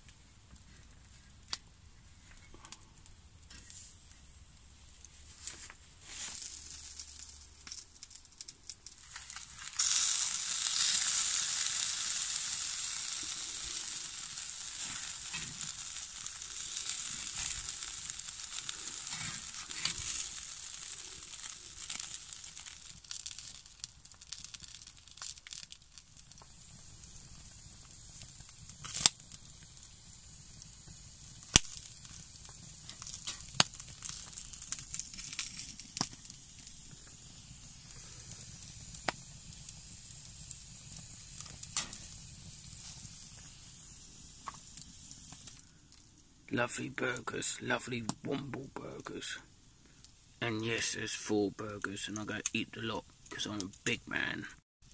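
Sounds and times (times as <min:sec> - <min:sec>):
burger patties sizzling: 0:00.0 - 0:54.9.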